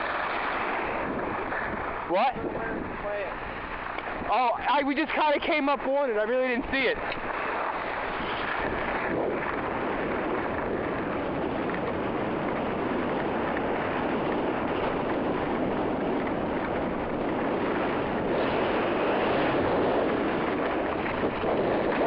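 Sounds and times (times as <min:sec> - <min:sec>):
wind rushing across microphone: 0:00.0 - 0:22.0.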